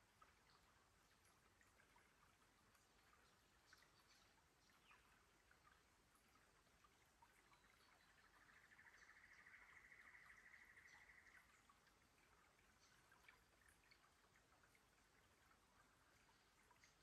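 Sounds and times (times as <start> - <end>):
creek trickling over rocks: 0.0 - 17.0
water drips: 0.0 - 17.0.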